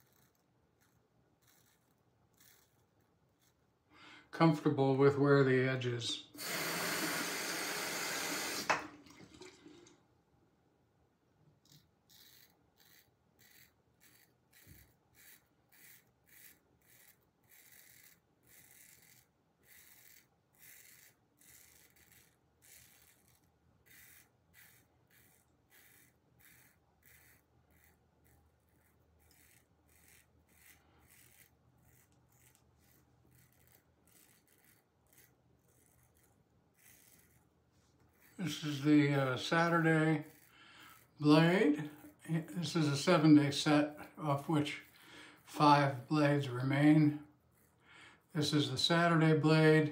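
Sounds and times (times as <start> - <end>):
razor scraping stubble: 0.0 - 8.8, 11.6 - 49.8.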